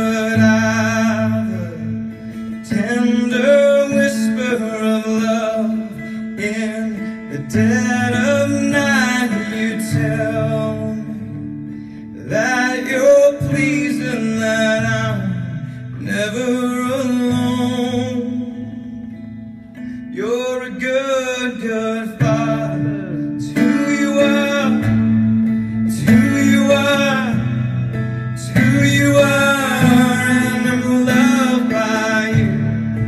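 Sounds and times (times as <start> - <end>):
man singing: 0.0 - 33.0
strummed acoustic guitar: 0.0 - 33.0.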